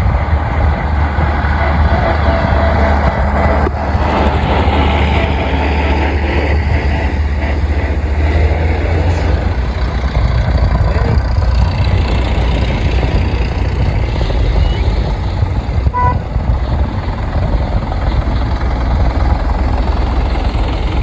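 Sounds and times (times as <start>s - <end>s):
tractor diesel engine rumbling: 0.0s - 21.0s.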